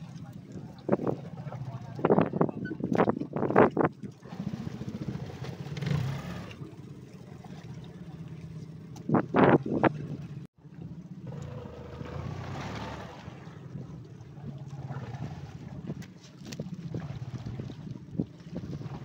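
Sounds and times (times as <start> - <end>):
boat engine running: 0.0 - 19.0
wind: 0.0 - 19.0.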